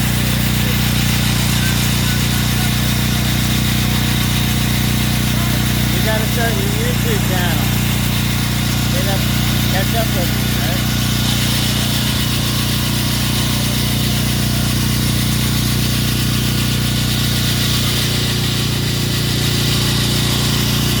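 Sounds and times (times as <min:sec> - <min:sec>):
machinery engine humming: 0:00.0 - 0:21.0.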